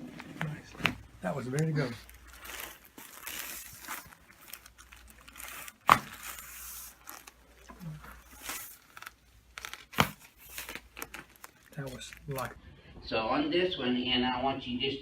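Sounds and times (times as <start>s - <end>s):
clothing and paper rustling: 0.0s - 12.7s.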